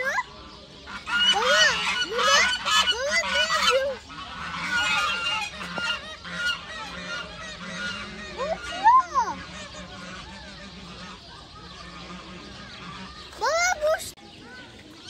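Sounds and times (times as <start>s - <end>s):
goose honking: 0.8s - 14.0s.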